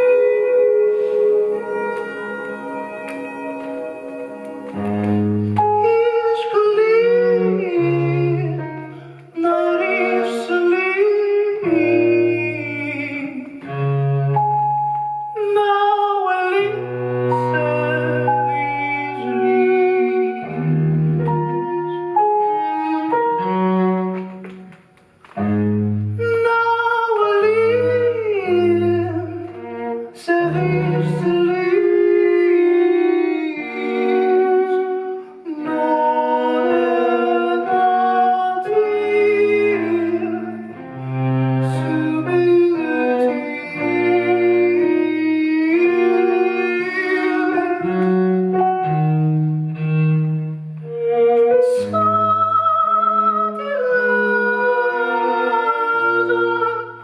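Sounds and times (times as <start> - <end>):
bowed strings chamber music: 0.0 - 57.0.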